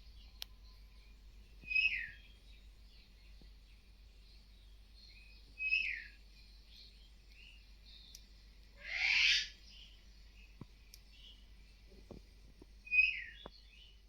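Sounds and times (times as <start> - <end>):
faint bird chirps: 0.0 - 12.0, 12.8 - 14.0
birds calling: 0.1 - 12.1, 12.9 - 14.0.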